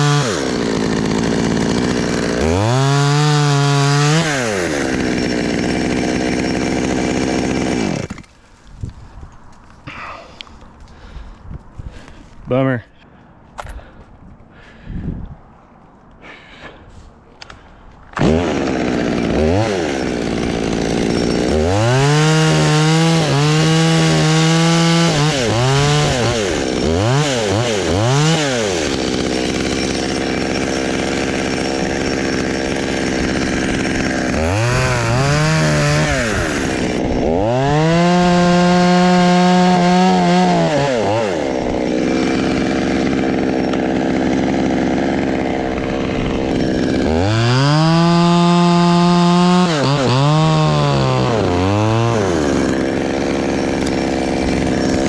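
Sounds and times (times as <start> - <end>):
chainsaw revving and idling: 0.0 - 8.4, 18.1 - 55.0.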